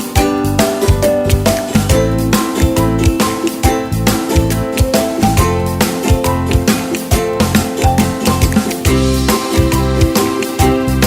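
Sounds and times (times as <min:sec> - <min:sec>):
plucked guitar: 0:00.0 - 0:11.0
steady beat: 0:00.0 - 0:11.0
upbeat background music: 0:00.0 - 0:11.0.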